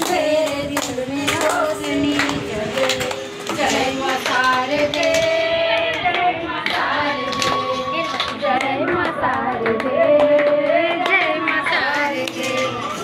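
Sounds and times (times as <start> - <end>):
devotional song on smart speaker: 0.0 - 13.0
people clapping along: 0.0 - 13.0.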